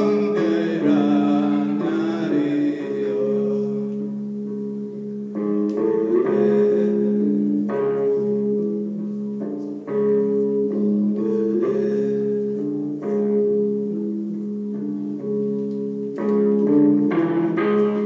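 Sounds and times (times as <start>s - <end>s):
guitar notes: 0.0s - 18.0s.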